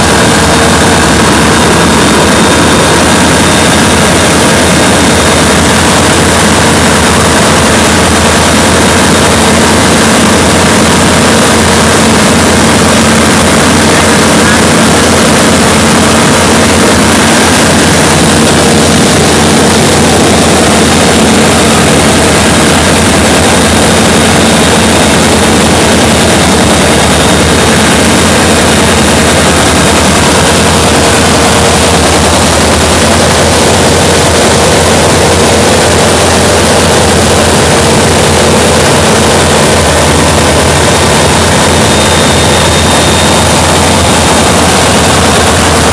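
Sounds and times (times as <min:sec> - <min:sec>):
light aircraft engine and propeller: 0:00.0 - 0:45.9
rushing air: 0:00.0 - 0:45.9.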